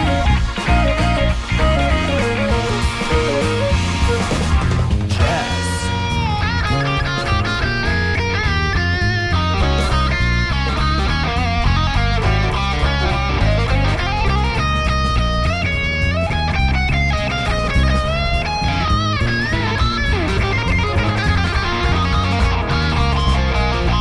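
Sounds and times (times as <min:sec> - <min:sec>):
bass guitar: 0:00.0 - 0:24.0
drum kit: 0:00.0 - 0:24.0
electric guitar lead: 0:00.0 - 0:24.0.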